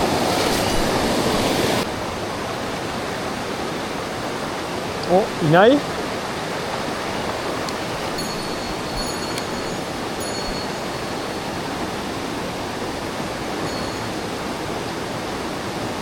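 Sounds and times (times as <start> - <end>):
stream water rushing over rocks: 0.0 - 16.0.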